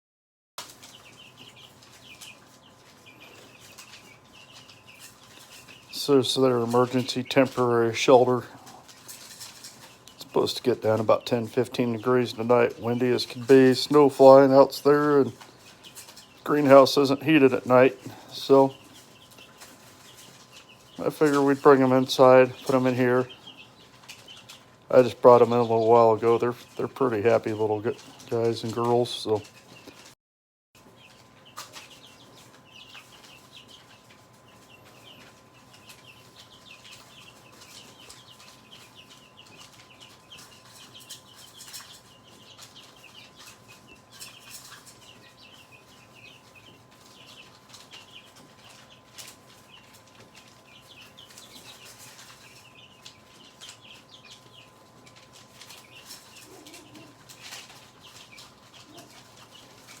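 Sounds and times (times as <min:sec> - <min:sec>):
baby chicks peeping: 0:00.6 - 0:30.2, 0:30.8 - 1:00.0.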